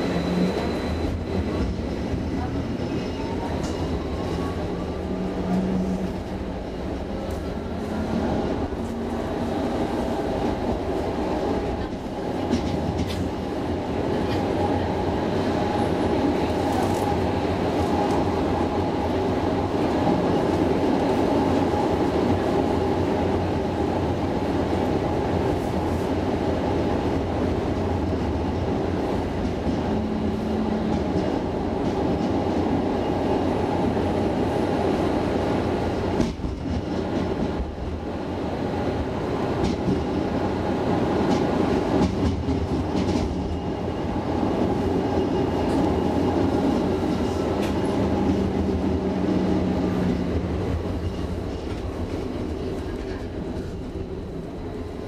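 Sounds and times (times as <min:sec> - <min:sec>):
tram rolling rumble: 0:00.0 - 0:55.0.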